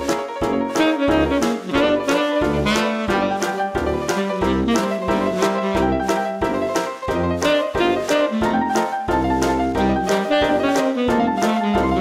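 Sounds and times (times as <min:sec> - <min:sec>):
jazz saxophone over steady beat: 0:00.0 - 0:12.0.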